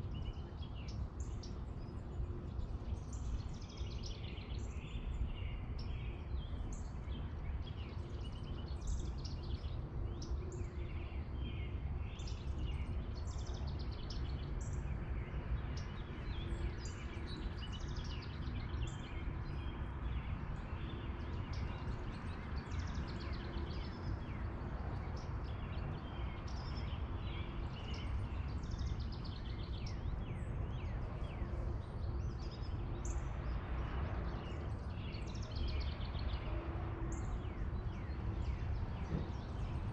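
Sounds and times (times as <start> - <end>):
low outdoor rumble: 0.0 - 39.9
songbirds chirping: 0.0 - 39.9.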